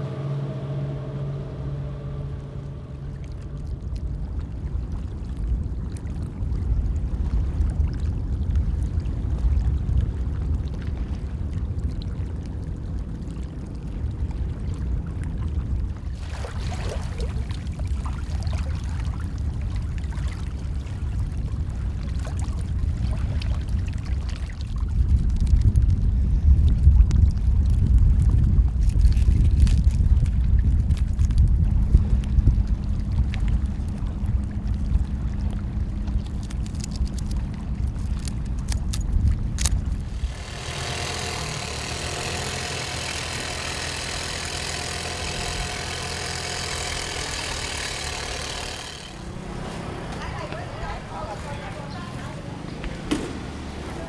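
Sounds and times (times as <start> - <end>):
low rumble over the sea: 0.0 - 40.6, 49.0 - 54.0
shallow water trickling and lapping: 1.9 - 54.0.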